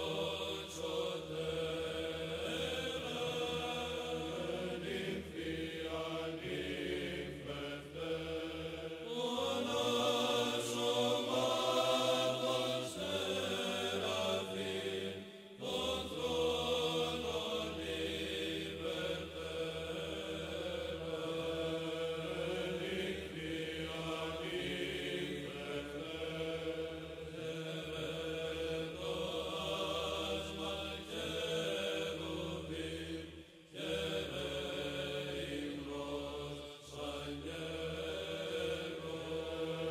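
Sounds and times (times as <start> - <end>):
voices chanting slow melody: 0.0 - 39.9.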